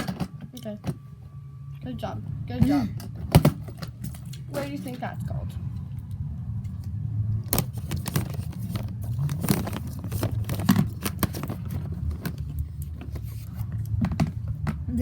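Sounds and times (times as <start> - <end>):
steady low rumble: 0.9 - 15.0.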